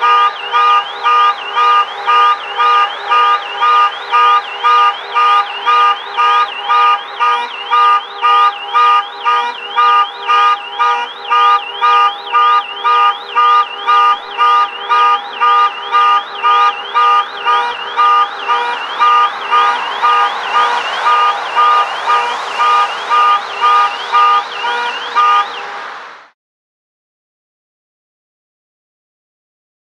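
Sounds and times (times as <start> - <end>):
car alarm beeping: 0.0 - 25.8
street background noise: 0.0 - 26.3.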